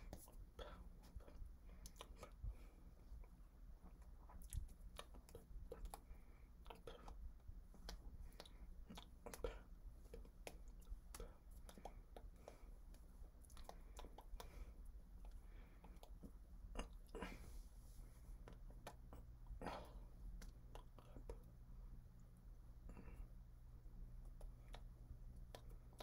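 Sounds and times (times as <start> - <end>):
soft mouth sounds: 0.0 - 26.0.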